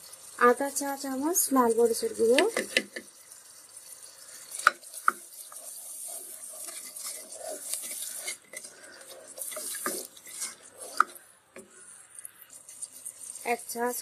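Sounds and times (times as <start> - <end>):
spice paste sizzling in oil: 0.0 - 14.0
spatula scraping pot: 1.2 - 14.0.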